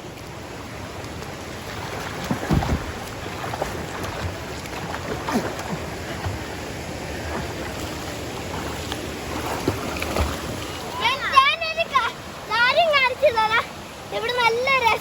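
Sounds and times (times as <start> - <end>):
water rushing over rocks: 0.0 - 15.0
water splashes: 0.0 - 15.0.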